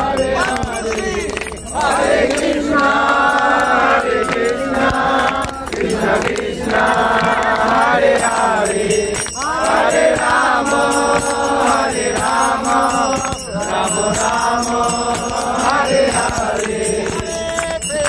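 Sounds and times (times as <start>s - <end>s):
group chanting: 0.0s - 18.0s
hand clapping: 0.0s - 18.0s.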